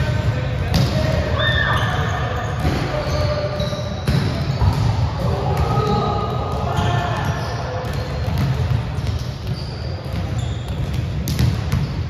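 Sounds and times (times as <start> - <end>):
volleyballs thudding in a hall: 0.0 - 12.0.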